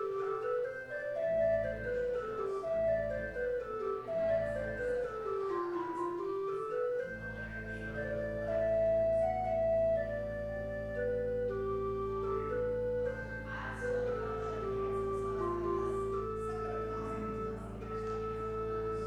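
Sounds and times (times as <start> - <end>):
low organ bass notes: 0.0 - 19.0
organ runs of notes: 0.0 - 19.0.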